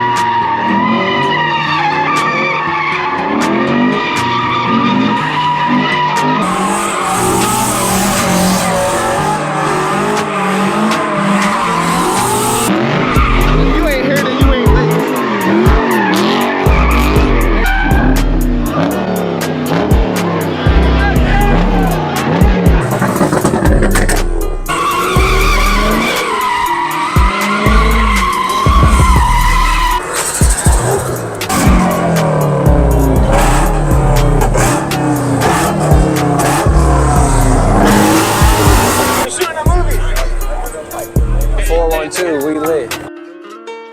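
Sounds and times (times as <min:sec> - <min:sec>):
tyres squealing: 0:00.0 - 0:19.0, 0:21.0 - 0:43.1
car engine revving: 0:00.0 - 0:43.1
deep bass music: 0:00.0 - 0:43.1.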